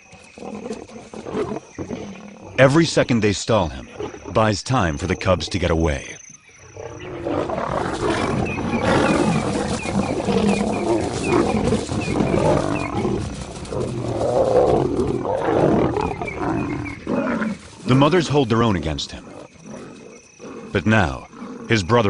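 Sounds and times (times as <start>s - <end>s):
lions snarling and roaring: 0.0s - 6.0s, 6.6s - 22.0s.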